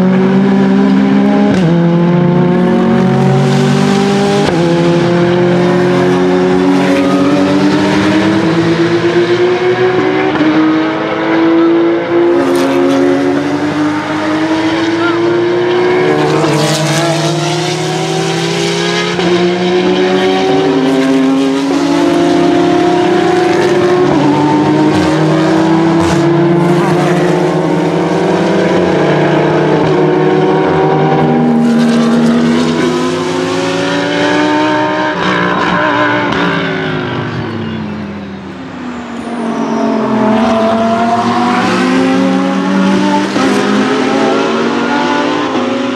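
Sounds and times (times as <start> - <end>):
race car engines accelerating: 0.0 - 45.9.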